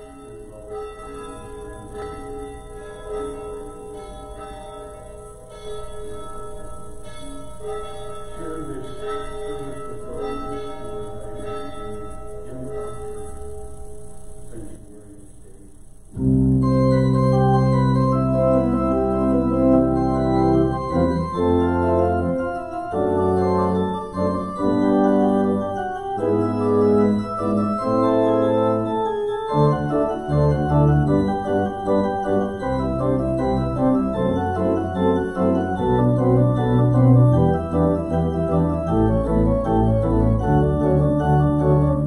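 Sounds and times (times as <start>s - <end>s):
organ music: 0.0s - 42.0s.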